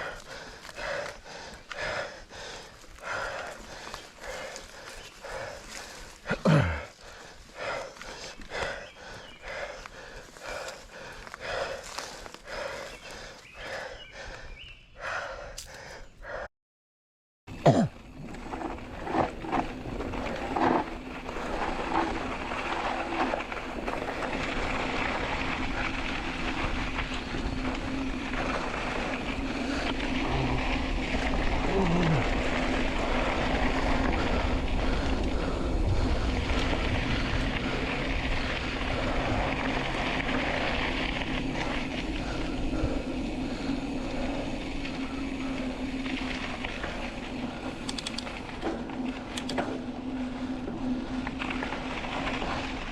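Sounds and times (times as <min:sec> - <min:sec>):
bike tyre and wind noise: 0:00.0 - 0:16.5, 0:17.5 - 0:52.9.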